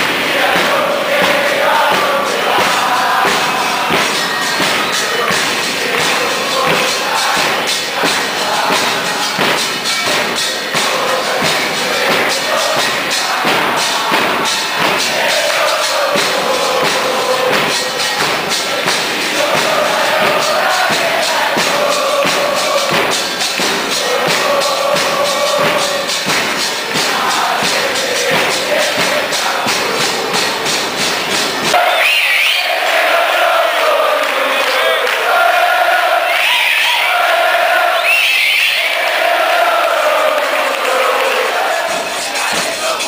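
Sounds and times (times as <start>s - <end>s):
crowd singing a chant: 0.0s - 43.0s
drums beating: 0.0s - 43.0s.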